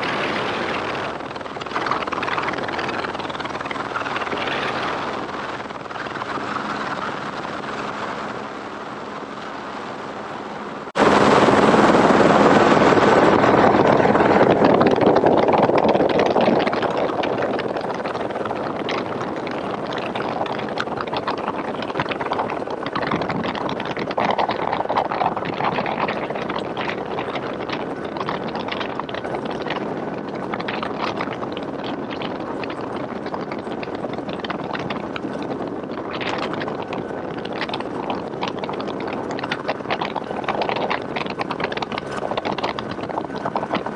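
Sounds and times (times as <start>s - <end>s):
helicopter running: 0.0s - 43.9s
loud rush of noise: 0.0s - 43.9s.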